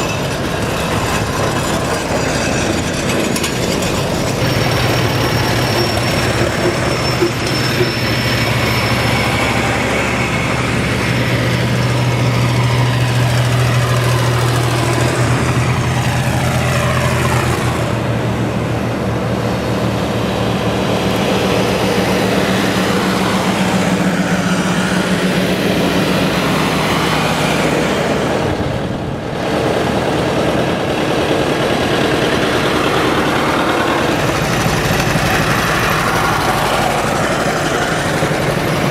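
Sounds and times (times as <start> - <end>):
tractor engines driving past: 0.0 - 38.9.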